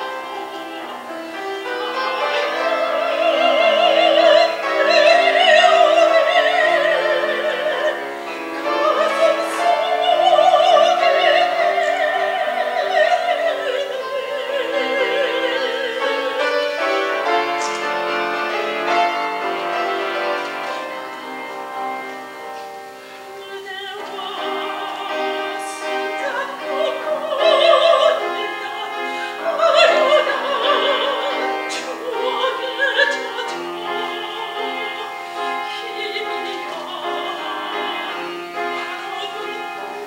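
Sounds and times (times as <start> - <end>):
grand piano accompaniment: 0.0 - 40.0
soprano singing with vibrato: 0.0 - 40.0.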